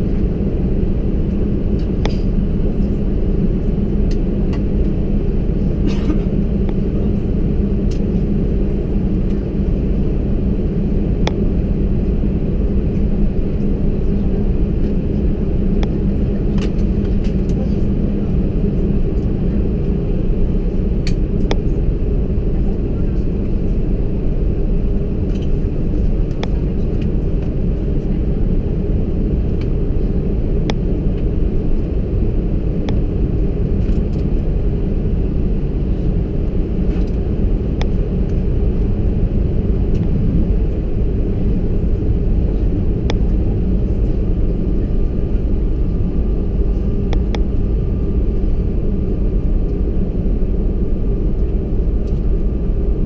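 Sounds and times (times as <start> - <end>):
airliner engines idling rumble: 0.0 - 53.0.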